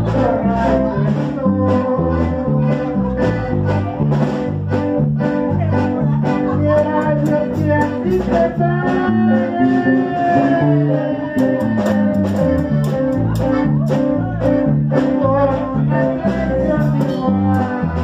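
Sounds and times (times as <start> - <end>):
accordion melody: 0.0 - 18.0
live band playing: 0.0 - 18.0.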